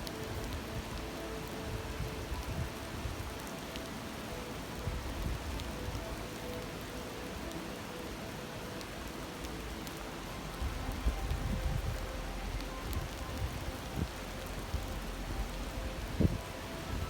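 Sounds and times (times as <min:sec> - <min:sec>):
campfire crackles: 0:00.0 - 0:17.0
river rushing and babbling: 0:00.0 - 0:17.0.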